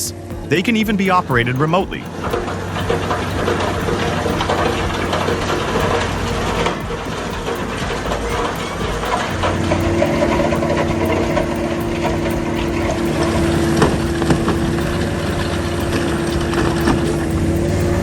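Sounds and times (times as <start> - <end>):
heavy machine engine running: 0.0 - 18.0.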